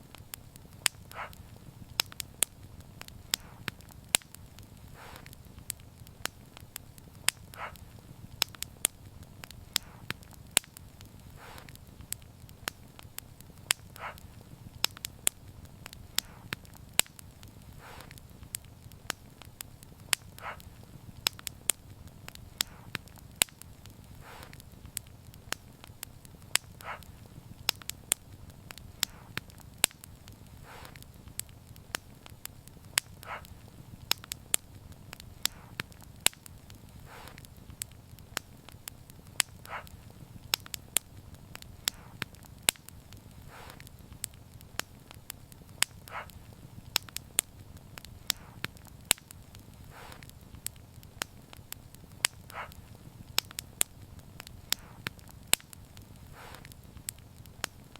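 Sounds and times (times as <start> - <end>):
low rumble of burning flames: 0.0 - 57.9
wood fire crackling and popping: 0.0 - 57.9.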